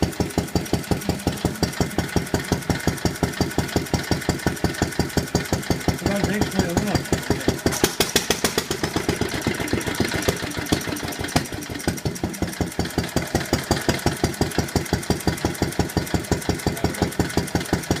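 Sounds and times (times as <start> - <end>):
stationary engine running: 0.0 - 18.0.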